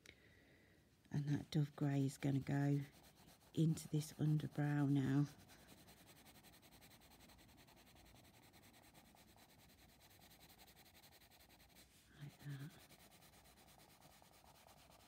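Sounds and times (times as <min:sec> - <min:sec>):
pencil shading on paper: 0:01.3 - 0:15.0.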